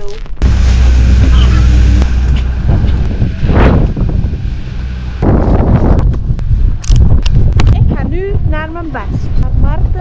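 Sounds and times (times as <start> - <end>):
wind buffeting microphone: 0.4 - 10.0.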